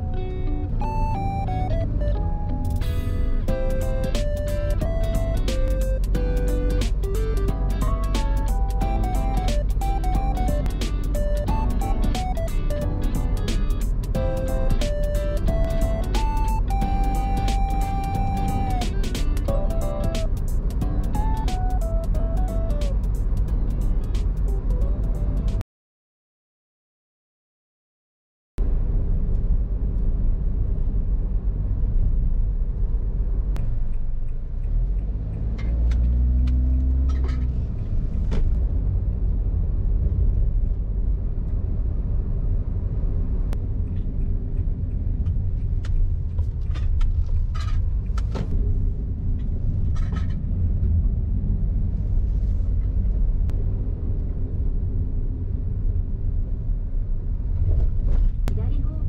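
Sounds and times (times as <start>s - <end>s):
car road and engine rumble: 0.0s - 25.6s, 28.6s - 59.0s.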